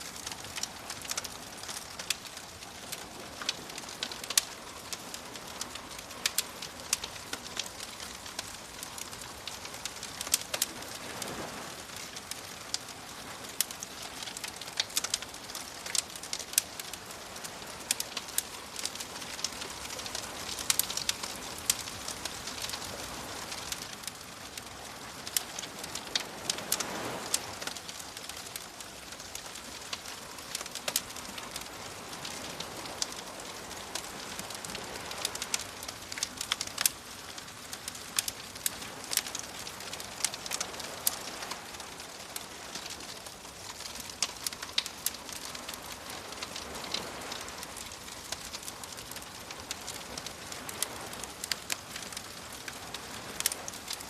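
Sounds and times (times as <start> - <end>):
gentle waves washing in: 0.0 - 54.0
wood fire crackling and popping: 0.0 - 54.0.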